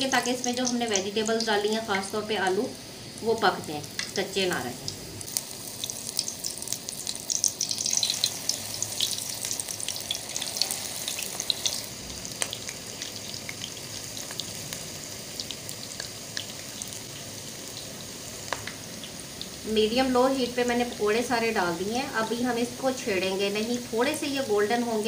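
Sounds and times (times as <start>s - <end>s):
deep-frying sizzle and crackle: 0.0s - 25.0s.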